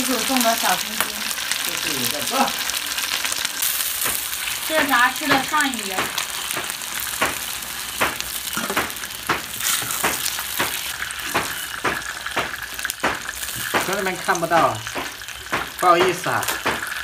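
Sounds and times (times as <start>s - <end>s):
hot oil sizzling in wok: 0.0s - 17.0s.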